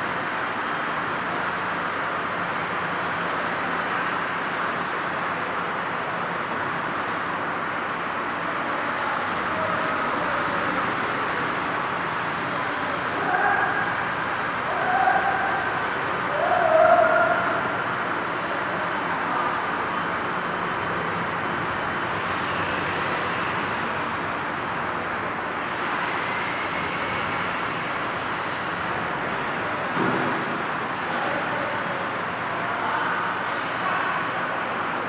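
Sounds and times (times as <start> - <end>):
faint high whine: 0.0 - 18.0, 20.8 - 34.5
milling machine running: 0.0 - 18.4, 20.3 - 35.0.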